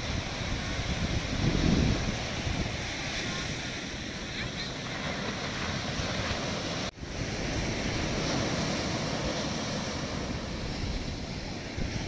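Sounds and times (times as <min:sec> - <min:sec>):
sea surf breaking on beach: 0:00.0 - 0:12.0
wind buffeting microphone: 0:00.0 - 0:12.0.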